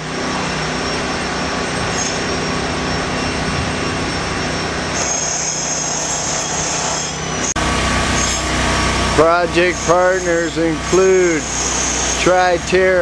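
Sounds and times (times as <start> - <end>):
engine humming: 0.0 - 13.0
high whine: 0.0 - 13.0.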